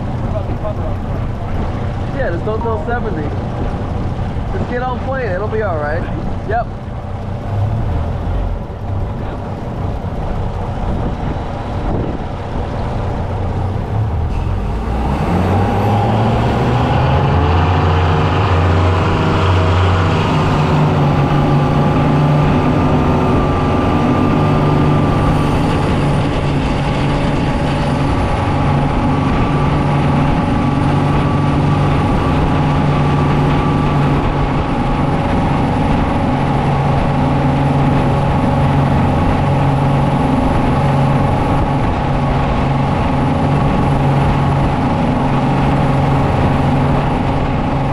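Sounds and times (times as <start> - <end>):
outboard motor revving: 0.0 - 47.9.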